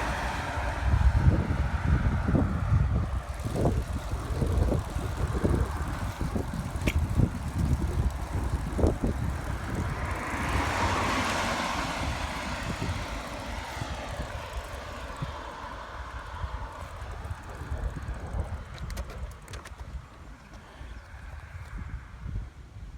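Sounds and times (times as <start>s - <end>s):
wind rumble on microphone: 0.0s - 22.9s.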